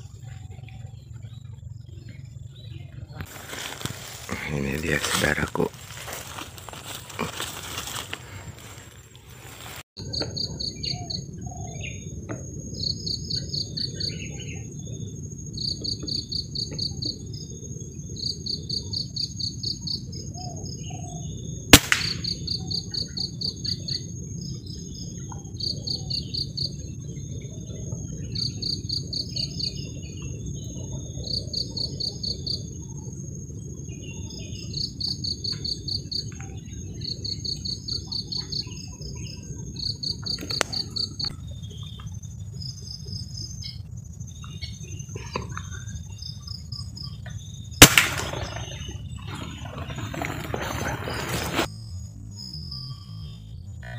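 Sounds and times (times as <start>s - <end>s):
high-pitched insect whine: 0.0s - 53.9s
insect trills: 0.0s - 53.9s
low rumbling noise: 0.0s - 53.9s.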